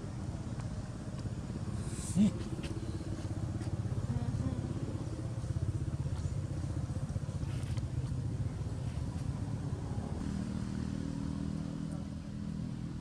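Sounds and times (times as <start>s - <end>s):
engine running with pulsing hum: 0.0s - 13.0s.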